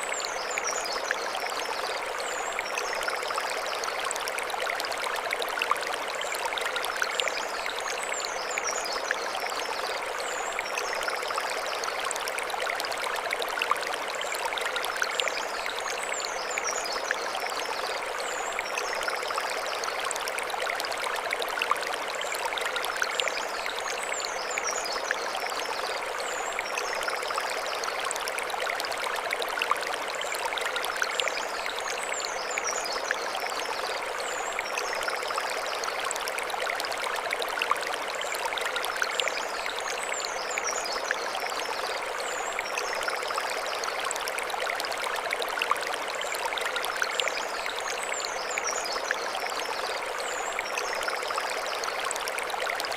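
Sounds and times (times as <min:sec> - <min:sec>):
stream flowing over stones: 0:00.0 - 0:52.9.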